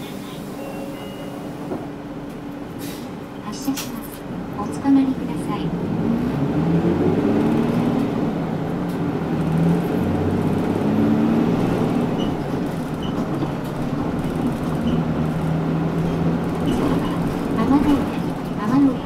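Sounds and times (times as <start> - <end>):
road noise: 1.5 - 19.0
bus diesel engine shifting gears: 2.3 - 19.0.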